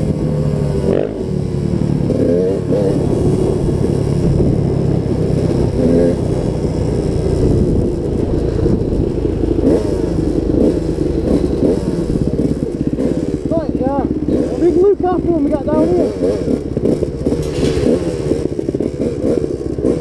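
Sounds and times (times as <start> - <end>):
dirt bike engine: 0.0 - 20.0.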